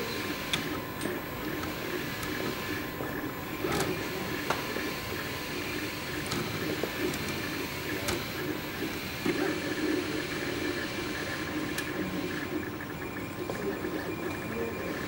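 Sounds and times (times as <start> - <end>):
fans humming: 0.0 - 15.0
stepper motors whirring: 0.0 - 15.0.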